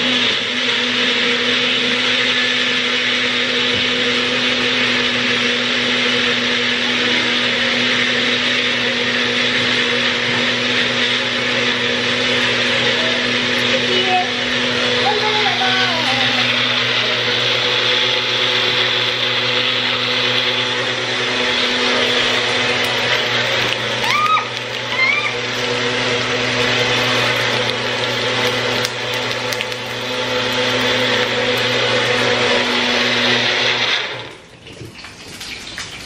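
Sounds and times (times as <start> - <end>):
blender running: 0.0 - 34.5.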